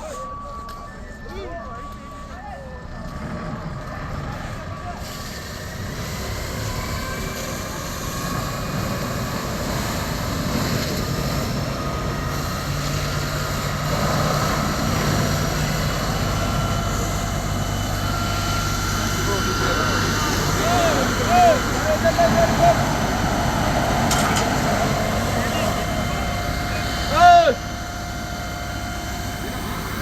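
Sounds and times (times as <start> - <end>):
heavy engine humming: 0.0 - 30.0.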